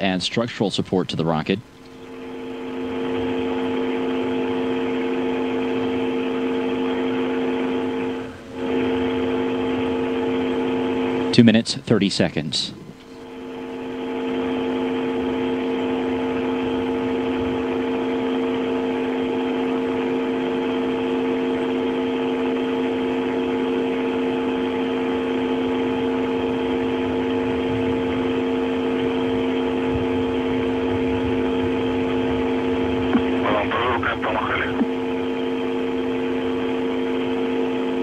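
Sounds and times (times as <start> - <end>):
steady multi-tone hum: 0.0 - 38.0.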